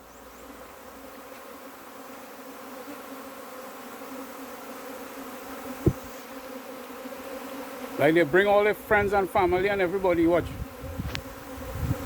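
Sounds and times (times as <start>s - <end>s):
honey bee swarm buzzing: 0.0s - 12.0s.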